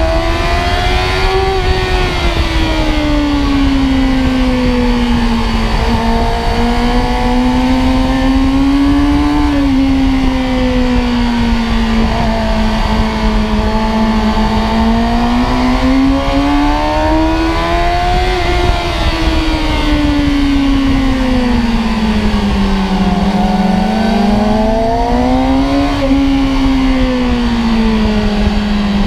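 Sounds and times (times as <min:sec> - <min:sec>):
motorcycle engine at high revs: 0:00.0 - 0:29.0
wind rush on microphone: 0:00.0 - 0:29.0.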